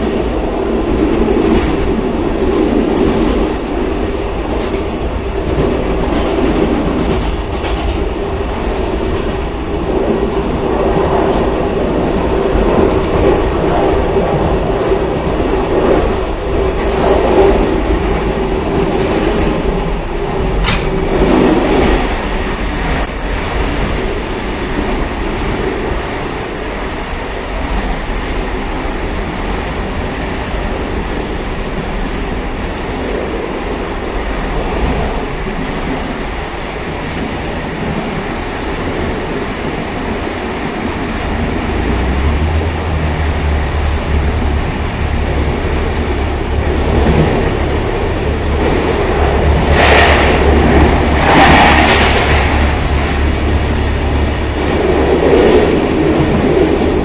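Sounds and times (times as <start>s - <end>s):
train rumbling and rattling: 0.0s - 57.0s
deep low drone: 9.4s - 57.0s.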